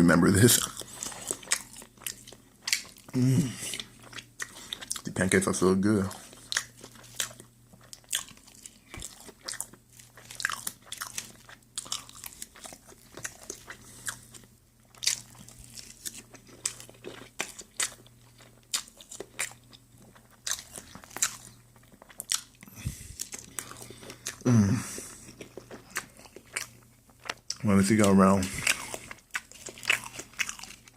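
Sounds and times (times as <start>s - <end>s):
faint steady hum: 0.0s - 30.9s
person chewing food: 0.2s - 5.4s, 6.0s - 30.9s.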